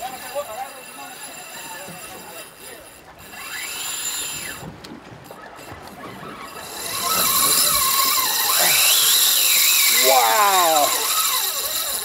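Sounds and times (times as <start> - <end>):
fishing reel drag screaming: 0.0 - 4.7, 5.3 - 12.0.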